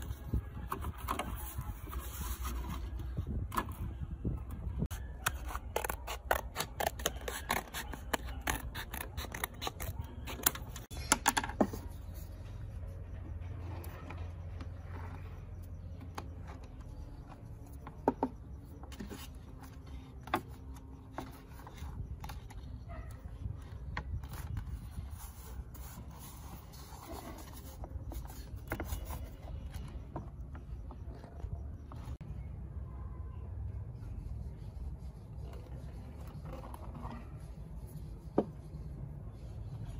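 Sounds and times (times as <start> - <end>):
soft scraping and rubbing: 0.0 - 10.9, 11.7 - 32.2, 33.9 - 39.9.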